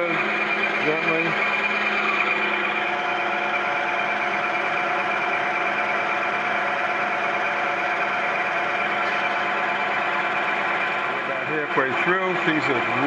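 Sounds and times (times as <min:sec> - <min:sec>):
cutter cutting metal: 0:00.0 - 0:13.0
milling machine running: 0:00.0 - 0:13.0.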